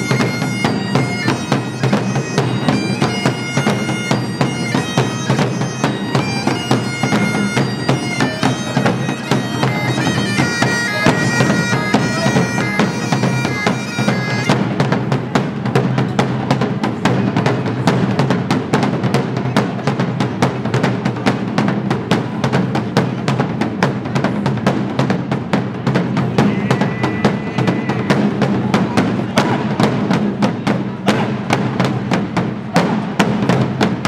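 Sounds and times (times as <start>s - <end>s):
bass and snare drums beating: 0.0s - 34.0s.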